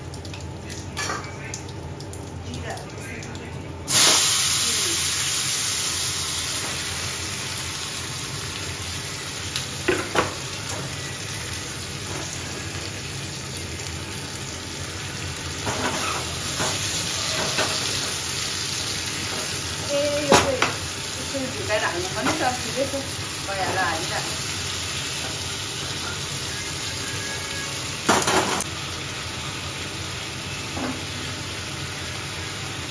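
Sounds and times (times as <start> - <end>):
vegetables sizzling in hot oil: 3.9 - 32.9.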